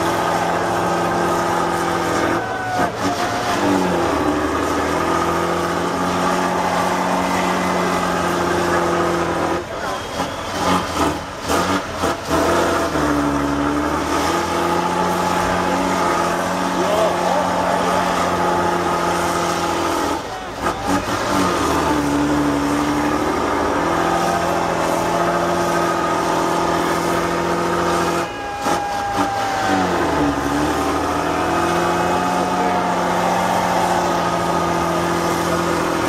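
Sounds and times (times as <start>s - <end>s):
diesel truck engine under load: 0.0s - 36.0s.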